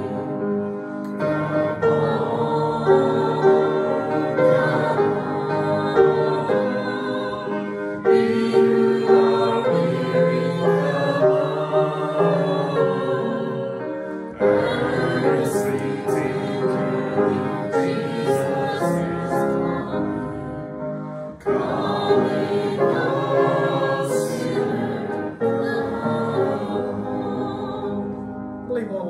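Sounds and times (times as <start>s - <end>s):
congregation singing a hymn: 0.0s - 28.6s.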